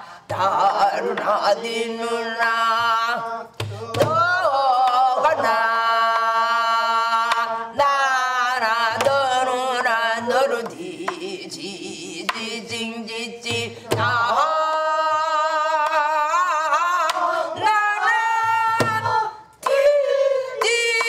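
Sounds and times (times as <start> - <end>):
woman singing with wide vibrato: 0.0 - 21.0.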